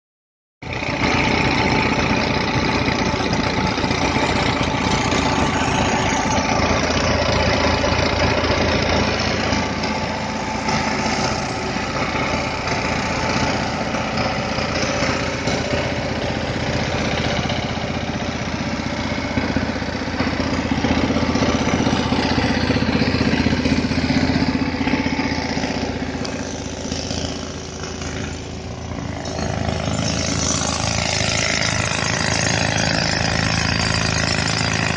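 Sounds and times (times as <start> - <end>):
tractor diesel engine running: 0.6 - 34.9
air compressor running: 0.7 - 34.9.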